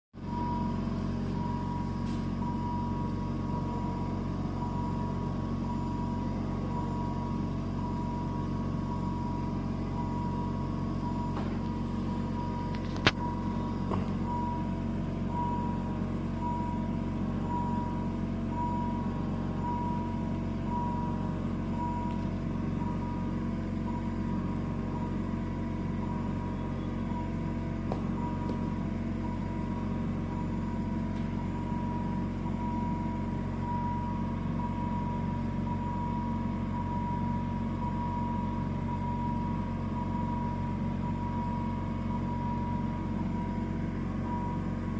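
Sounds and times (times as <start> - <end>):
medical equipment hum: 0.2 - 44.9
monitor alarm beeping: 0.2 - 44.9.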